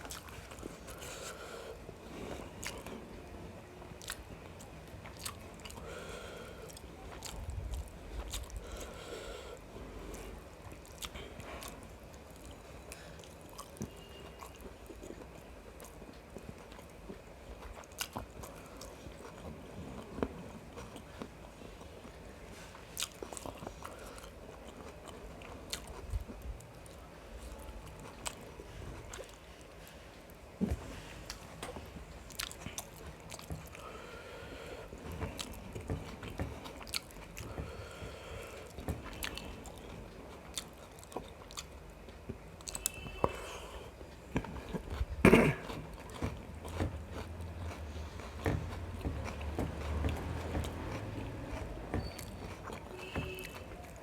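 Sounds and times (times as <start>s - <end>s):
close chewing and biting: 0.0s - 54.0s.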